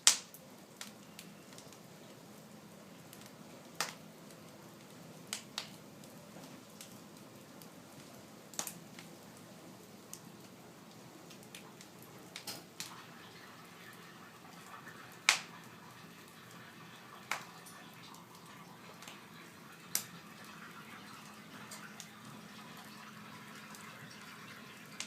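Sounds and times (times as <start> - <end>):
faint steady hiss: 0.0 - 25.0
wood fire crackling and popping: 0.0 - 25.0.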